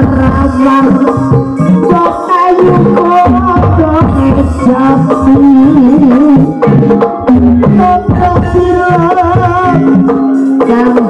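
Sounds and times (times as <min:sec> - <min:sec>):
metallophone notes: 0:00.0 - 0:11.0
person singing wavering melody: 0:00.0 - 0:11.0.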